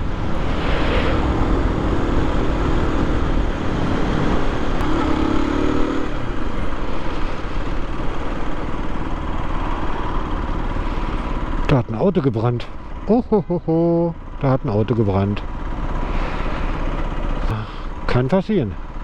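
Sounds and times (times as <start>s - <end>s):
wind and road noise: 0.0s - 19.0s
motorcycle engine running: 1.2s - 18.2s.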